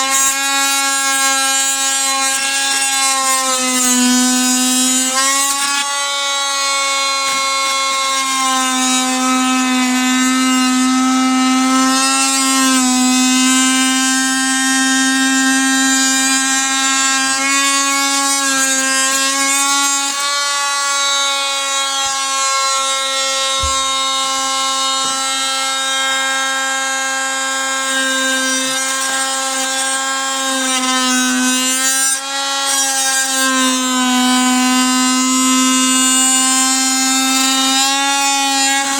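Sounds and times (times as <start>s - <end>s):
oscillating tool cutting wood: 0.0s - 38.9s.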